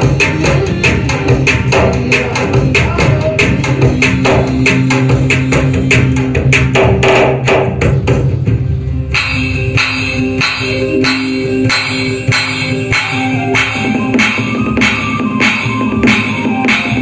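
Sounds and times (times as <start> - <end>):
electronic percussion pads struck: 0.0 - 17.0
steady held notes: 0.0 - 17.0.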